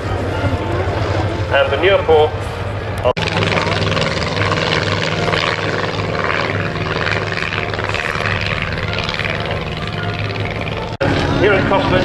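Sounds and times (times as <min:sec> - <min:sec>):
propeller aircraft engines droning: 0:00.0 - 0:12.0.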